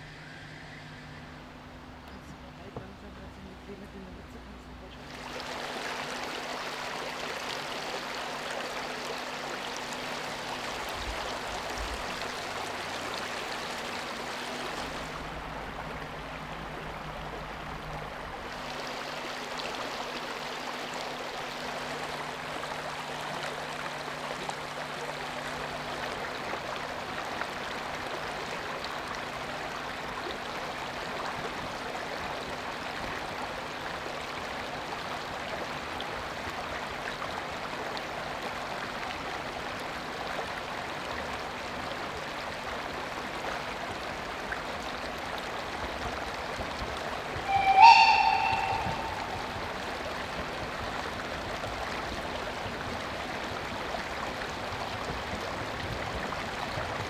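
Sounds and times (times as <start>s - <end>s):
stream running over stones: 0.0s - 47.5s, 49.8s - 57.0s.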